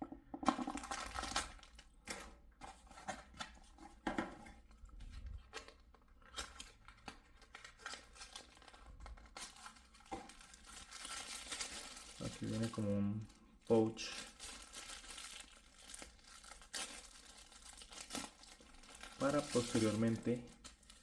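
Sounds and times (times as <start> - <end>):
packaging rustling and crinkling: 0.5 - 21.0.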